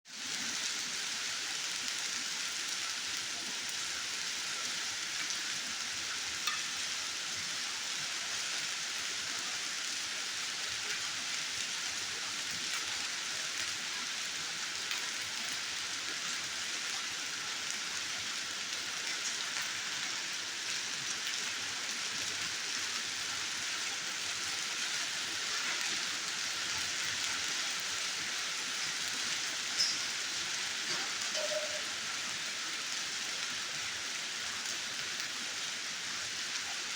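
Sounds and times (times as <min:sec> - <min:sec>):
heavy rain hissing: 0:07.2 - 0:36.9.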